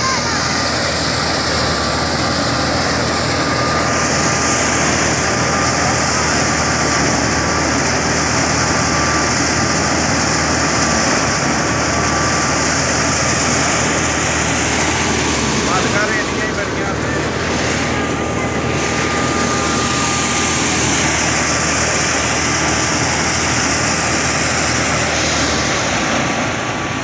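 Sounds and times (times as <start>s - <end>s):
thin steady whine: 0.0s - 27.0s
thresher machine noise: 0.0s - 27.0s
tractor engine drone: 0.0s - 27.0s.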